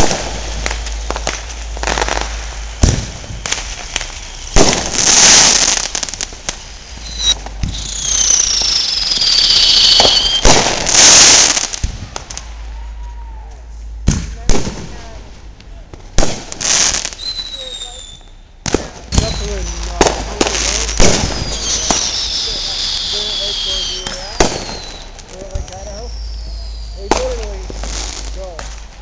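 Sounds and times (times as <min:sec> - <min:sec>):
firework hissing rushes: 0:00.0 - 0:12.6, 0:16.1 - 0:29.0
whistling firework: 0:00.0 - 0:15.0, 0:16.2 - 0:28.4
firework bangs and crackles: 0:00.0 - 0:29.0.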